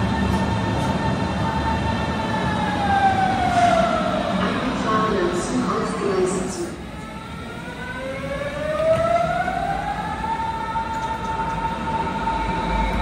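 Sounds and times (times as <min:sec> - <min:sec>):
electric train drive whining: 0:00.0 - 0:13.0
train rumble: 0:00.0 - 0:13.0.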